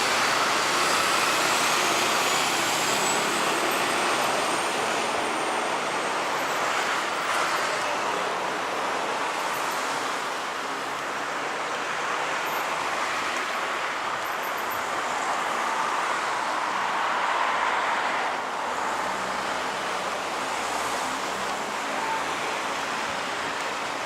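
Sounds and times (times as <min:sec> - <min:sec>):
road traffic: 0:00.0 - 0:24.0.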